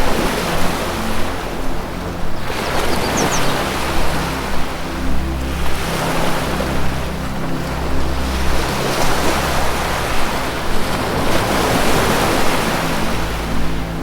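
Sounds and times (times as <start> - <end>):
low music drone: 0.0 - 14.0
ocean surf washing in: 0.0 - 14.0.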